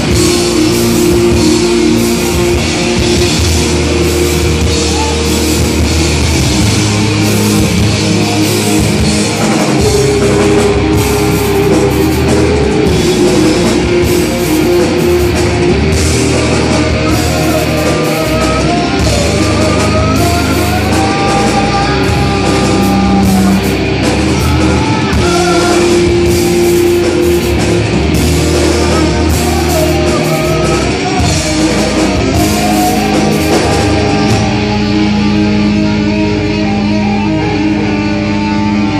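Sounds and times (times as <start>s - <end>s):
bass guitar: 0.0s - 38.9s
distorted electric guitars: 0.0s - 38.9s
drum kit pounding: 0.0s - 38.9s
person singing into microphone: 0.0s - 38.9s.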